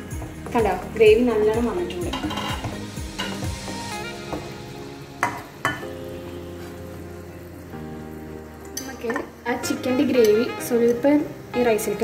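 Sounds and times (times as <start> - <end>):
background music chords: 0.0 - 12.0
chicken sizzling in a pan: 0.0 - 12.0.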